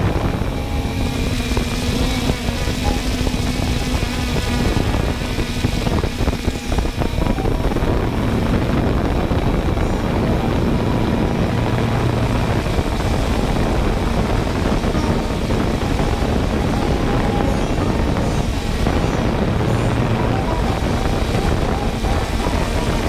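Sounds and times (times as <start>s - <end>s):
drone propellers whirring: 0.0s - 23.0s.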